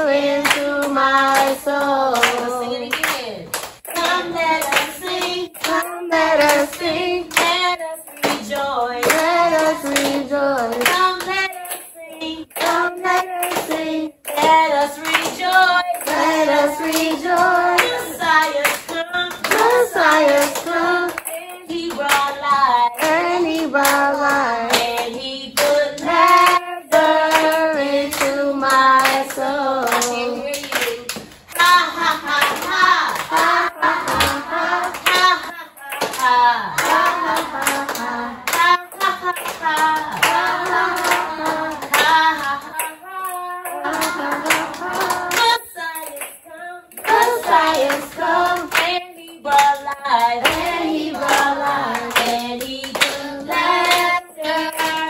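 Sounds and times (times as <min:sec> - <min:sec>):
children singing a worship song: 0:00.0 - 0:55.0
hands clapping in rhythm: 0:00.0 - 0:55.0.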